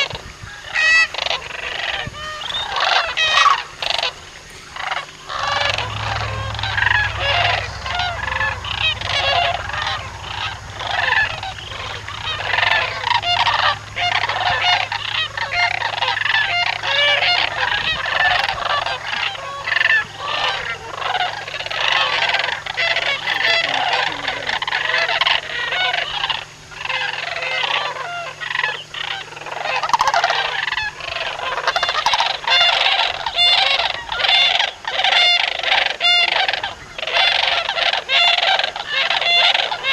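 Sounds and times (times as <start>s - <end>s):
large flock of birds calling: 0.0s - 39.9s
steady low hum: 0.0s - 39.9s.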